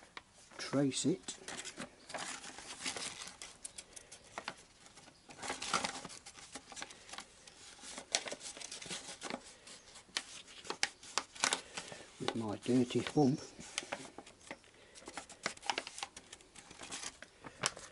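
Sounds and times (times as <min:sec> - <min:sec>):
paper crinkling and rustling: 0:00.5 - 0:17.9.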